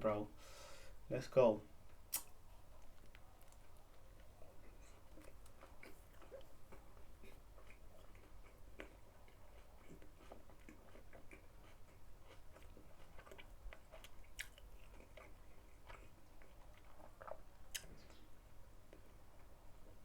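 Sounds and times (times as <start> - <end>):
person chewing wet smacks: 1.9 - 20.0.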